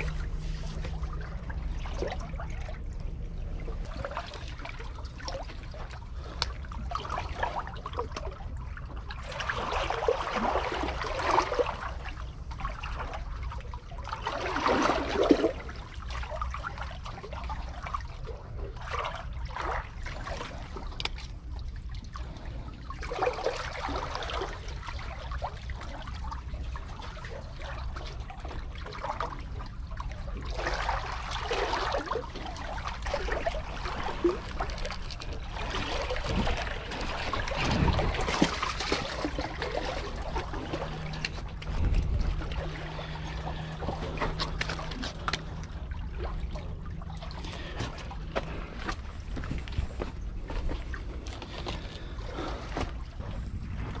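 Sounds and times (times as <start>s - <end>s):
seawater surging between blocks: 0.0s - 54.0s
steady low rumble: 0.0s - 54.0s.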